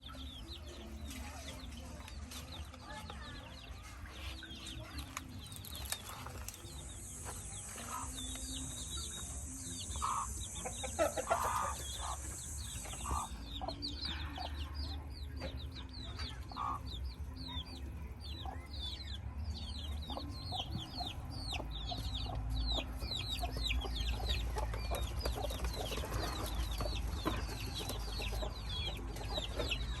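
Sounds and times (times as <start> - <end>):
chicks peeping: 0.0 - 30.0
hen clucking: 3.9 - 30.0.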